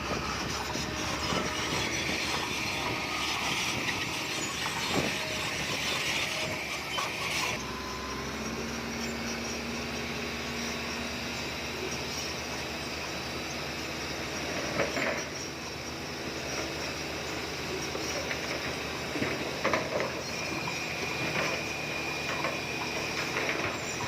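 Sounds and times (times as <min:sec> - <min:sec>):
bulldozer diesel engine running: 0:00.0 - 0:24.0
steel tracks squealing and clanking: 0:00.0 - 0:24.0.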